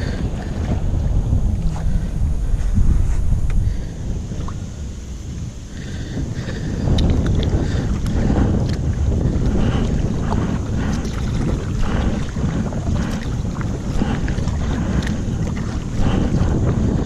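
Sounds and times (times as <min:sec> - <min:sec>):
strong wind buffeting microphone: 0:00.0 - 0:17.0
water splashing and lapping: 0:00.0 - 0:17.0.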